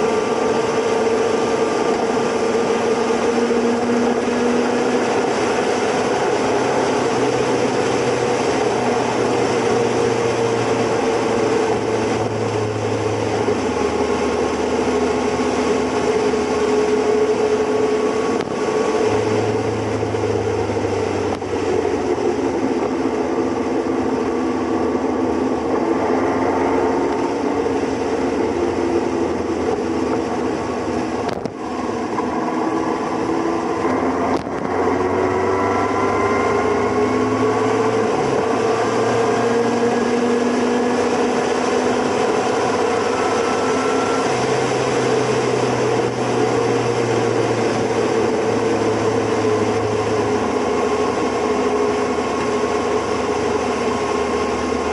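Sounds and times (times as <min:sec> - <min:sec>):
road and wind noise: 0:00.0 - 0:54.9.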